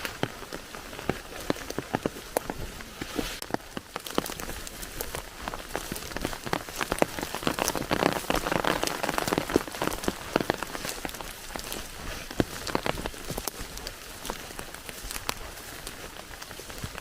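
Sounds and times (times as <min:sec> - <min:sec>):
rain drops ticking on a surface: 0:00.0 - 0:17.0
rain hiss: 0:00.0 - 0:17.0.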